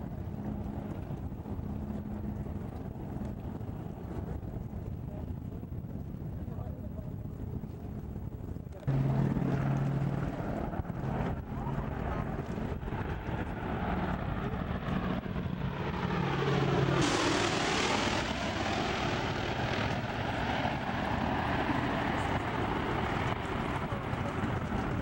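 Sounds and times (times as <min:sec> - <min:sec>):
propeller plane droning overhead: 0:00.0 - 0:25.0.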